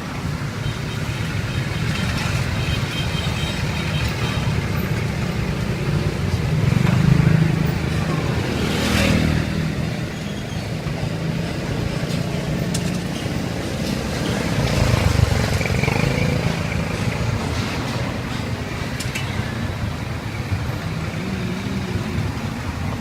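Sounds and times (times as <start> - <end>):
motorbikes passing: 0.0 - 23.0
vehicle engines passing: 0.0 - 23.0.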